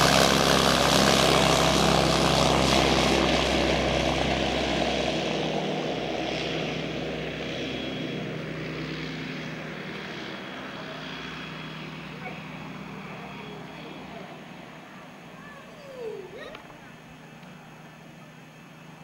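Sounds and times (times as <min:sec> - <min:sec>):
propeller airplane engine: 0:00.0 - 0:19.0.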